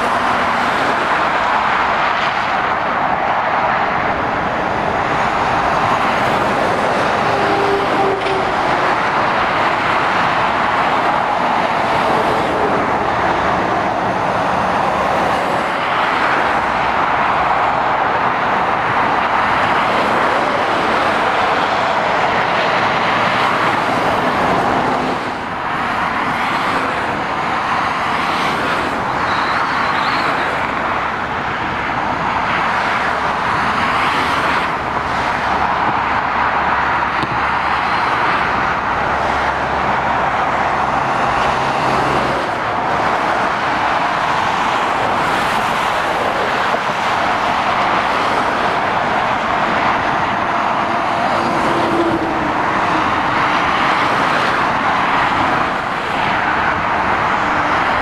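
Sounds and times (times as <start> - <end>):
road traffic hiss: 0.0 - 58.0.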